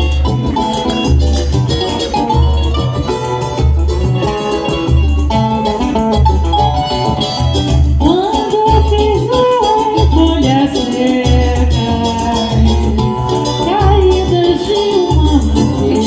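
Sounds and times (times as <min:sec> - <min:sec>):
acoustic guitar: 0:00.0 - 0:16.0
deep bass drum beat: 0:00.0 - 0:16.0
plucked strings: 0:00.0 - 0:16.0.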